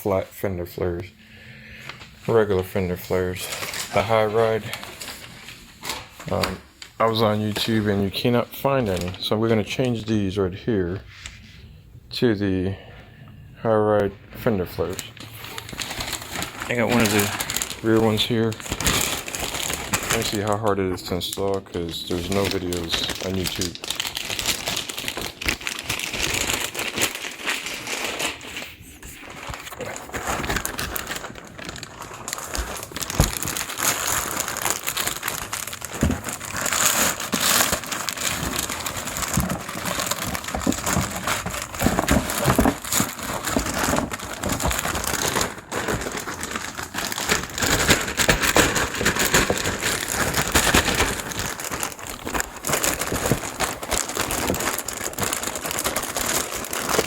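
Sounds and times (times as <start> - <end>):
packing material crinkling: 0.0 - 11.8, 14.0 - 57.0.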